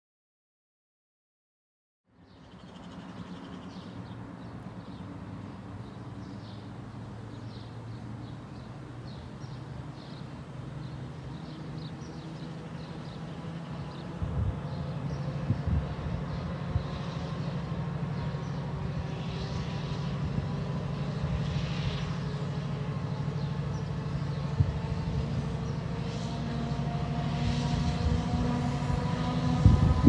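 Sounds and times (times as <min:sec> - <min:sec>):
diesel locomotive engine drone: 0:02.1 - 0:30.0.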